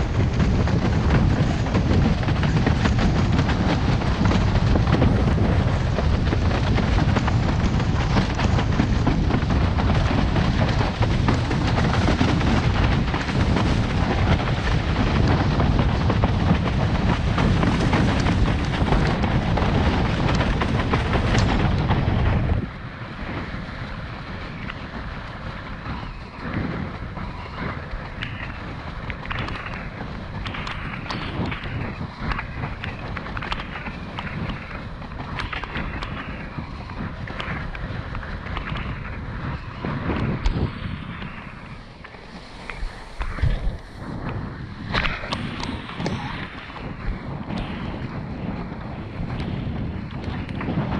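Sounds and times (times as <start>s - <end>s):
water rushing under board: 0.0s - 50.9s
wind buffeting microphone: 0.0s - 50.9s.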